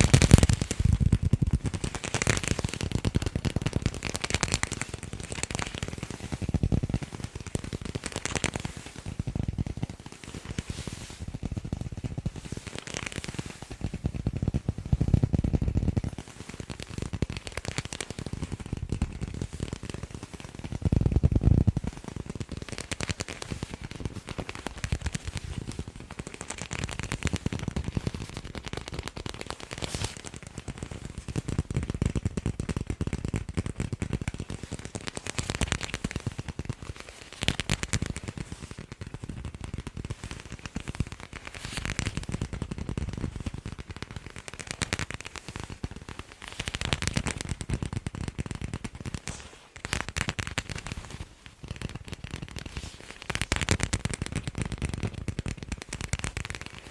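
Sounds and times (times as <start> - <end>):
rapid tapping on balls: 0.0 - 56.9.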